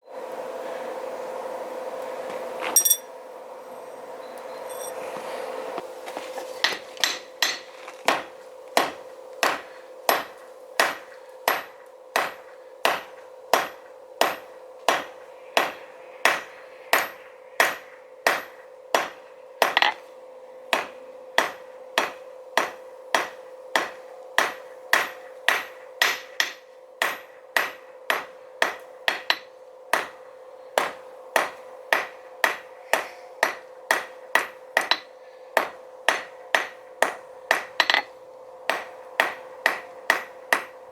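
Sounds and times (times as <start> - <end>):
hammer striking steel on anvil: 2.7 - 3.2, 6.6 - 20.0, 20.7 - 38.1, 38.7 - 40.8.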